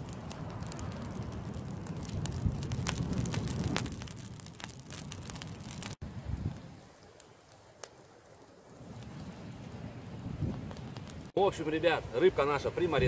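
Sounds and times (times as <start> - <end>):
campfire crackling and popping: 0.0 - 11.4.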